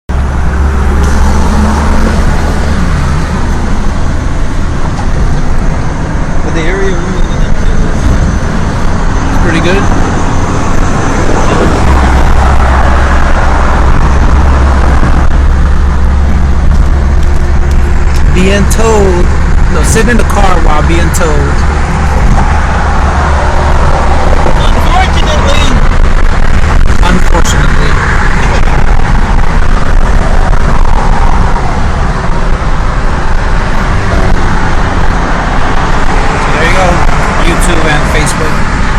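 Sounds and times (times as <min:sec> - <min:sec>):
deep rumble: 0:00.1 - 0:38.9
road noise inside car cabin: 0:00.1 - 0:38.9.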